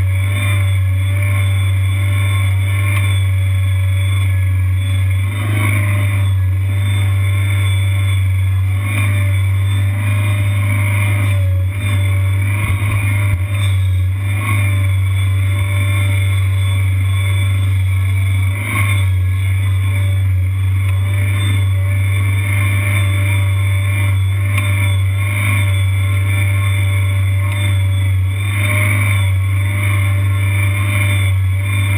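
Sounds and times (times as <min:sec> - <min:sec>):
skid steer engine droning: 0:00.0 - 0:31.9.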